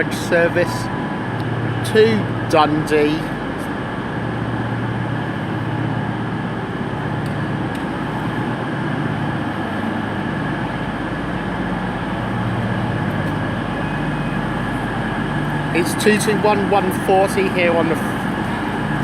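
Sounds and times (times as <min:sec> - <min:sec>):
diesel train hum: 0:00.0 - 0:19.0
station noise: 0:00.0 - 0:19.0.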